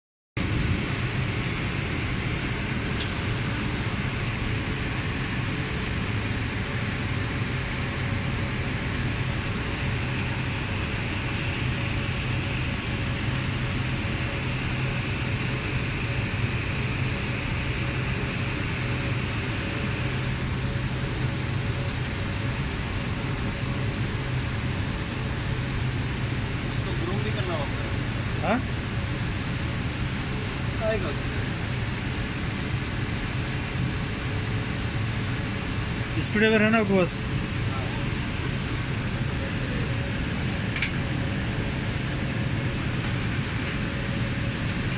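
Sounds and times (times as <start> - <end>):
cooling fans humming: 0.4 - 44.9
faint high whine: 0.4 - 44.9.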